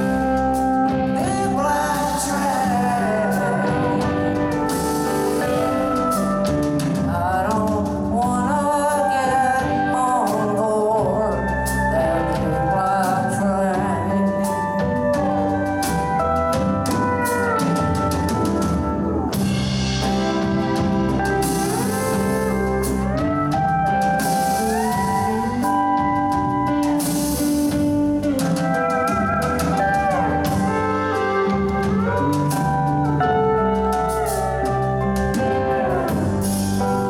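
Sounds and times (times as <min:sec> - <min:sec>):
drums: 0:00.0 - 0:37.0
lead guitar with bent notes: 0:00.0 - 0:37.0.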